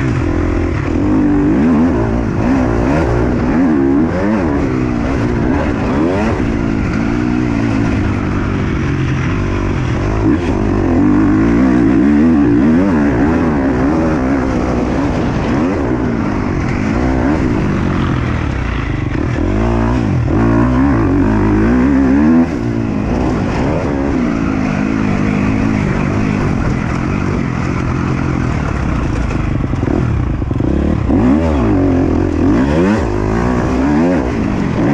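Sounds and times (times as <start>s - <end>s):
motocross engine revving: 0.0s - 34.9s.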